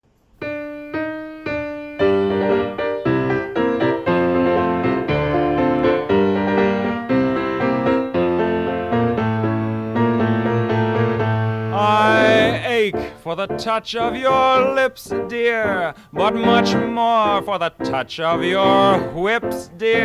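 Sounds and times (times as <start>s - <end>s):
piano playing tango: 0.4s - 20.0s.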